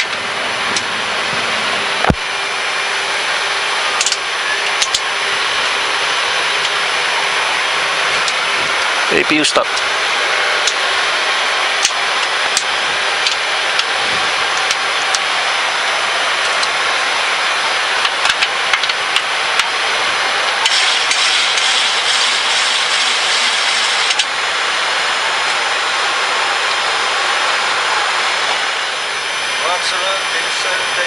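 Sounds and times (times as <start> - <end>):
jet engine noise: 0.0 - 31.0.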